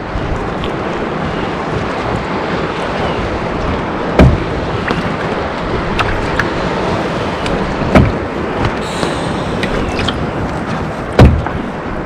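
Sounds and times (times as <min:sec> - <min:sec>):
waves knocking against hull: 0:00.1 - 0:12.0
water slapping against boat hull: 0:00.3 - 0:12.0.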